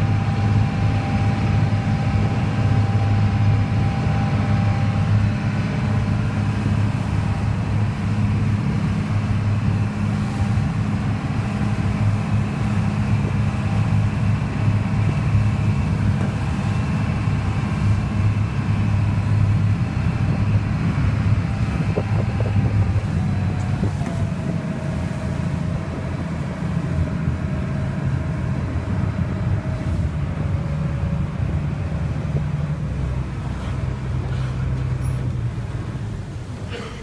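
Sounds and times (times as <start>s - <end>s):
ferry engine droning: 0.0s - 37.0s
water rushing along hull: 0.0s - 37.0s.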